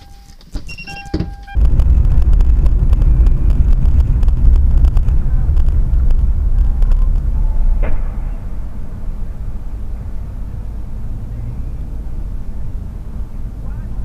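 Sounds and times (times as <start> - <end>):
low vehicle rumble: 0.7 - 14.0.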